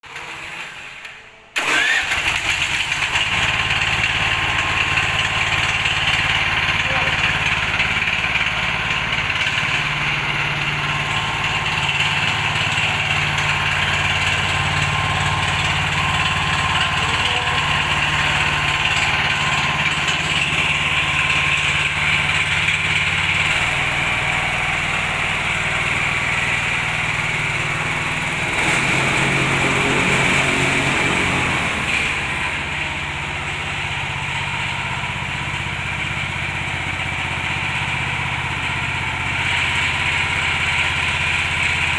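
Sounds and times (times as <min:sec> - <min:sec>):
petrol engine running: 0:00.0 - 0:41.9.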